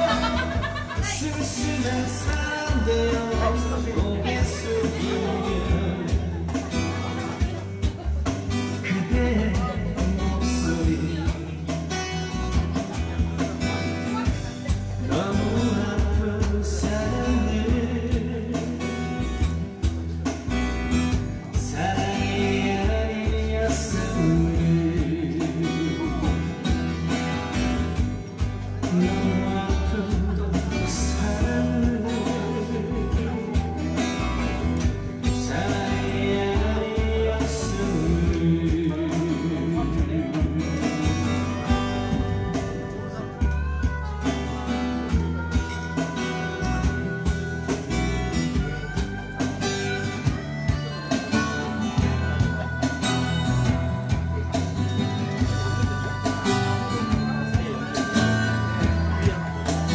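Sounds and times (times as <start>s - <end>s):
man singing into a microphone: 0.0s - 19.9s, 21.4s - 47.4s, 50.3s - 59.9s
backing music with low beat: 0.0s - 59.9s
guitar: 0.0s - 59.9s.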